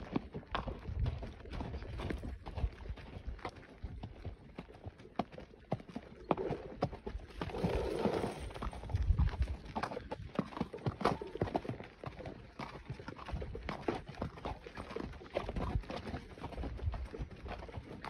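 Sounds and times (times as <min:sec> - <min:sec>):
hooves clip-clopping on stone: 0:00.0 - 0:18.0.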